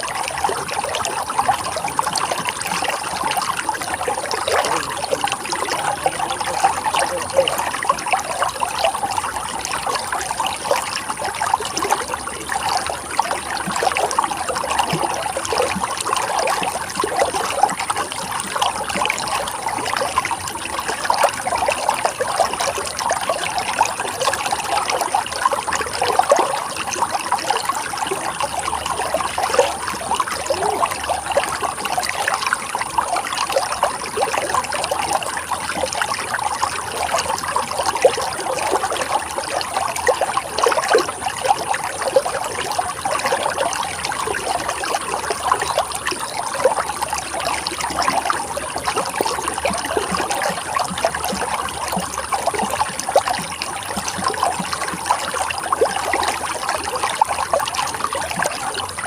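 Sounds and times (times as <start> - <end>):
stream water trickling over rocks: 0.0 - 59.0.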